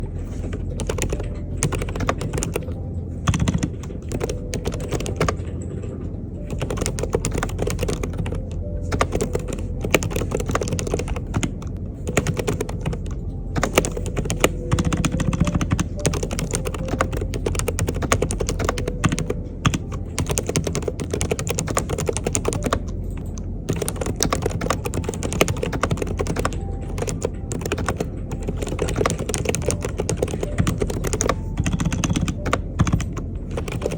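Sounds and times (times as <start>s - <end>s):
keyboard keystroke clicks: 6.4s - 33.9s.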